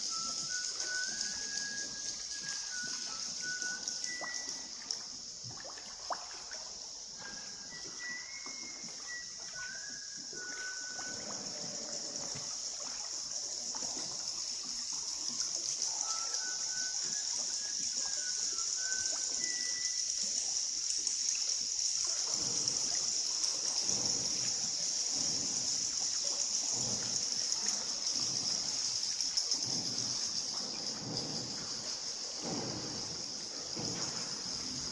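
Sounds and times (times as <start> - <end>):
whistled chirps: 0.0 - 5.4, 6.8 - 34.9
high-pitched hiss: 0.0 - 34.9
water splashing around boat: 0.0 - 34.9.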